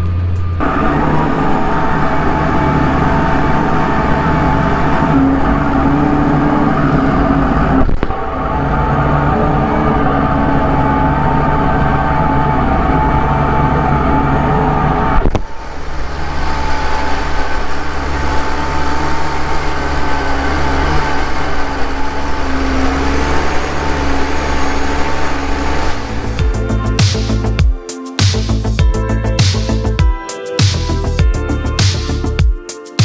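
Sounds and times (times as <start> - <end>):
tractor diesel engine running: 0.0 - 27.8, 28.4 - 30.0.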